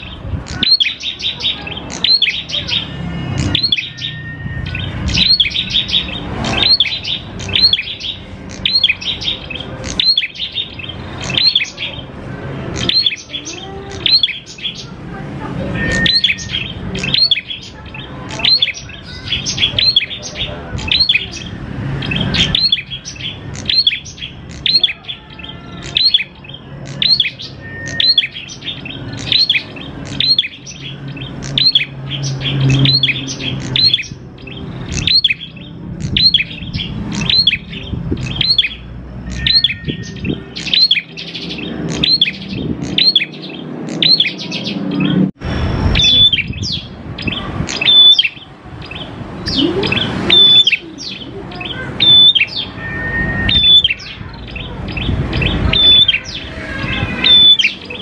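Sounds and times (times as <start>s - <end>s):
songbird chirping: 0.0s - 58.0s.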